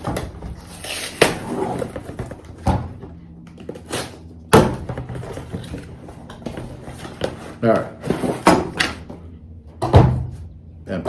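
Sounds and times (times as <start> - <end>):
knocks and thumps on cardboard box: 0.0 - 3.9, 4.5 - 9.2, 9.8 - 10.4.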